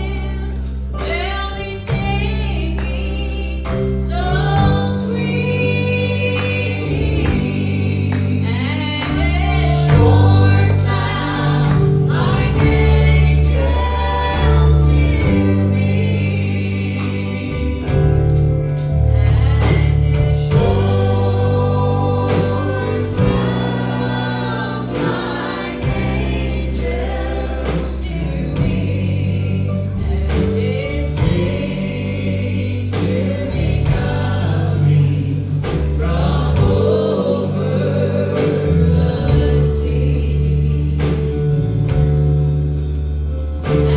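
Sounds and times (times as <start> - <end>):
vocal group singing in harmony: 0.0 - 42.0, 43.3 - 43.9
band playing: 0.0 - 43.9
bass line: 0.0 - 43.9.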